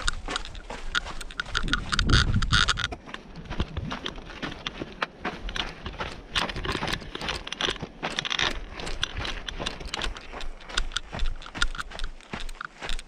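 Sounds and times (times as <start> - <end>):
footsteps on gravel: 0.0 - 13.0.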